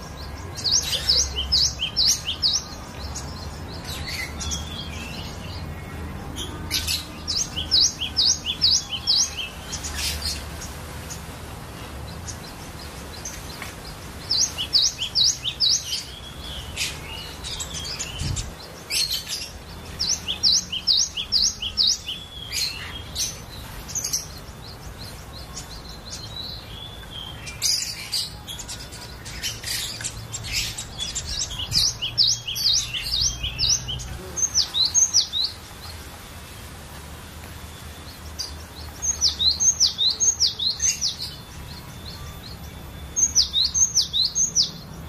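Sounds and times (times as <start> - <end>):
bird singing whistled notes: 0.0 - 10.6, 12.2 - 36.0, 37.6 - 45.0.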